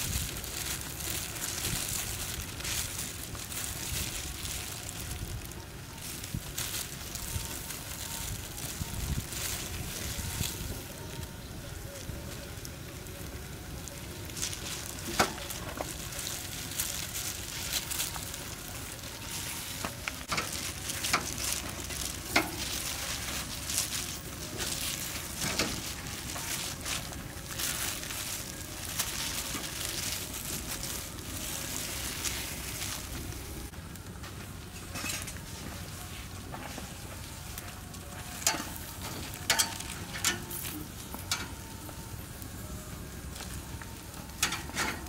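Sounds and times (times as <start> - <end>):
meat sizzling over flames: 0.0 - 45.0
wood fire crackling and hissing: 0.0 - 45.0.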